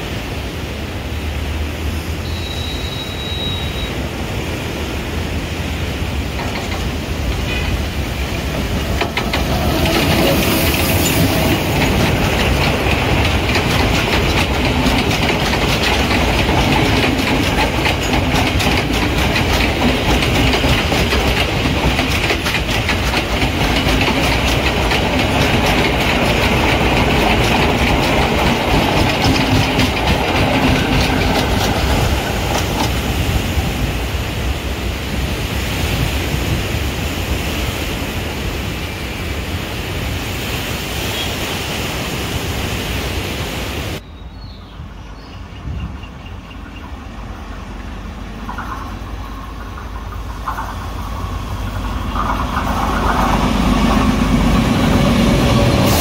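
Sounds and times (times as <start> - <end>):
train wheels clattering over rails: 4.4 - 40.6, 45.5 - 56.0.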